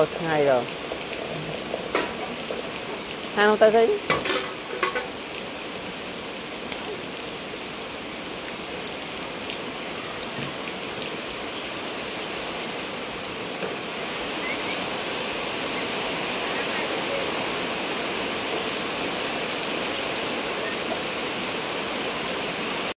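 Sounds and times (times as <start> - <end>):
rain on wet concrete: 0.0 - 22.9.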